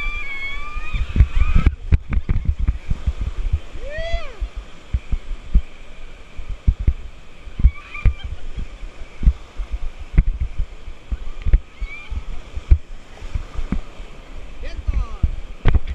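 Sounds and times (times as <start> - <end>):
whitewater rapids rushing: 0.0 - 15.9.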